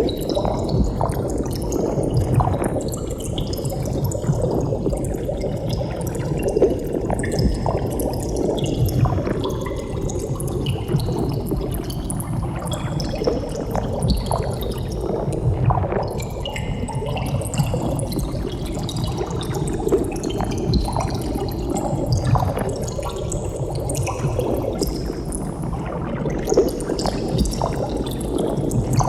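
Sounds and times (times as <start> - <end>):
underwater bubbles streaming and popping: 0.0 - 29.0.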